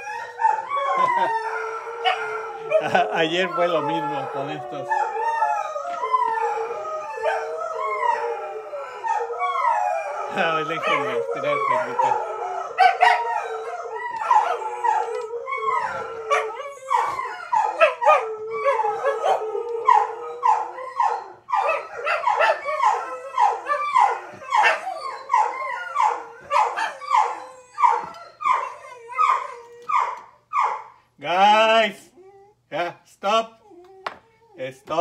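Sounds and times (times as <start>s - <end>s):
dog howling and whining: 0.0s - 30.9s, 32.0s - 32.7s, 33.6s - 35.0s.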